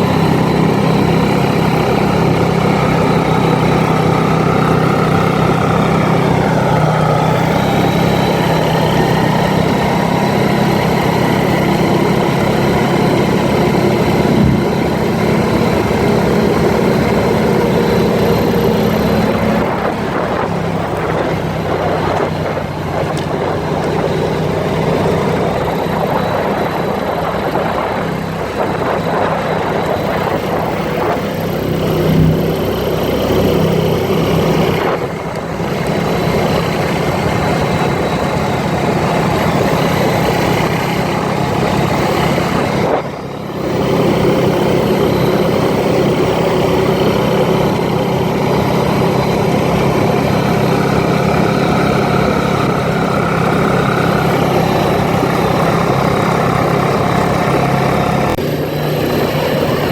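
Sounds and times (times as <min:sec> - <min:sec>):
atv engine running: 0:00.0 - 0:59.9
wind and trail noise: 0:00.0 - 0:59.9.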